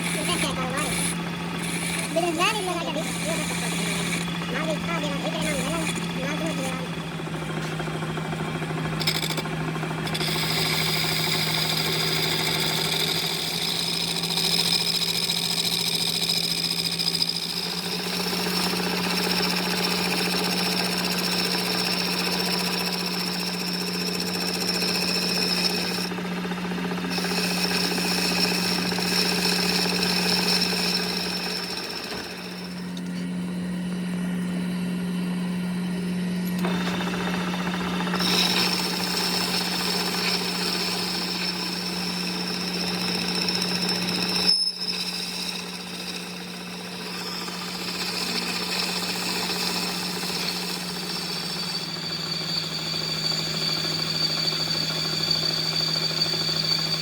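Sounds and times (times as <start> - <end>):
high machine whine: 0.0 - 57.0
workshop machine humming: 0.0 - 57.0.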